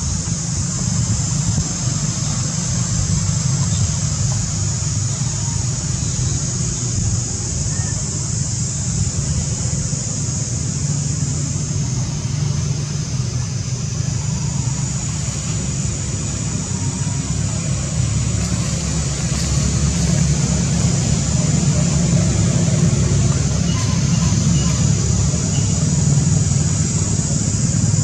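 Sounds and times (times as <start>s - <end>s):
continuous low rumble: 0.0s - 28.0s
high steady hiss: 0.0s - 28.0s.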